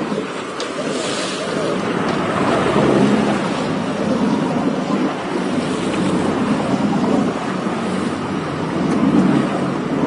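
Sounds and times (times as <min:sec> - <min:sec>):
boat engine running: 0:00.0 - 0:10.0
water rushing past hull: 0:00.0 - 0:10.0
wind buffeting microphone: 0:00.0 - 0:10.0.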